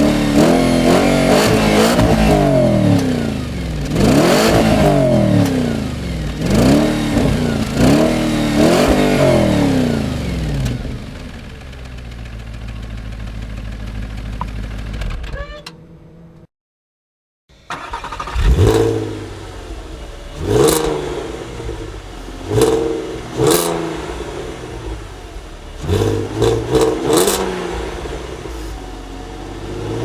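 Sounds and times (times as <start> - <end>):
car engine revving and idling: 0.0 - 15.1, 17.8 - 30.0.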